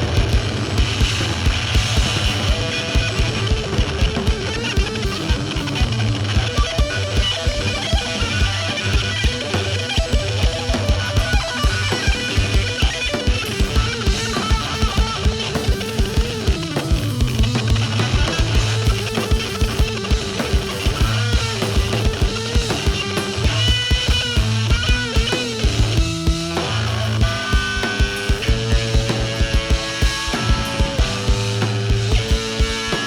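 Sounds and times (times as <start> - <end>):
electric guitar riffing: 0.0 - 33.0
fast kick-drum beat: 0.0 - 33.0.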